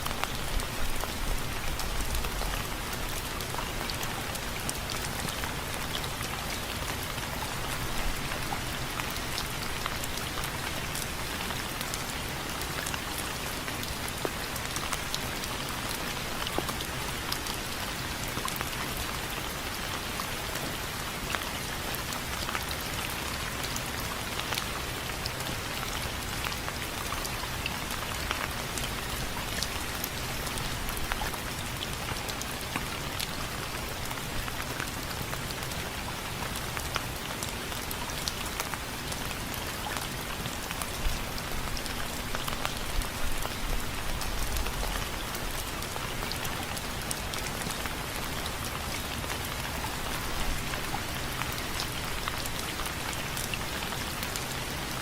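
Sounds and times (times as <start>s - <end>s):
rain on a window frame: 0.0s - 55.0s.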